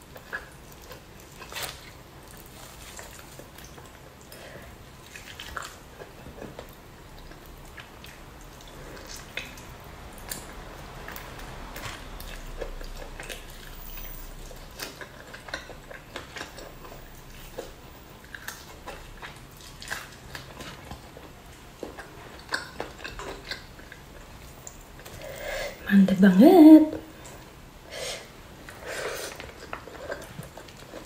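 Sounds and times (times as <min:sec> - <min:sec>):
chewing and lip-smacking: 0:00.0 - 0:25.2, 0:28.6 - 0:31.0.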